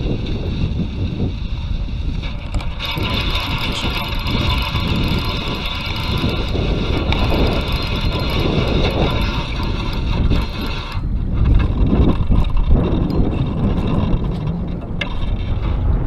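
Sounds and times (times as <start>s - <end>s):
fishing reel gear whir: 0.0s - 16.0s
wind rumbling on microphone: 0.0s - 16.0s.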